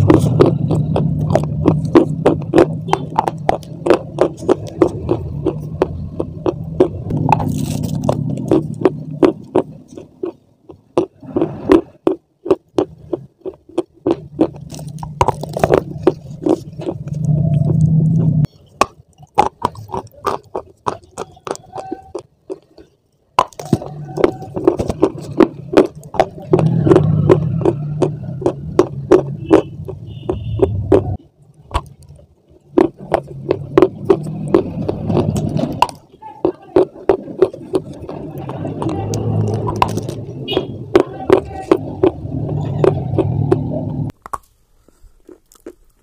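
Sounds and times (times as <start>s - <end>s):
crunching bites and chewing: 0.0s - 46.0s.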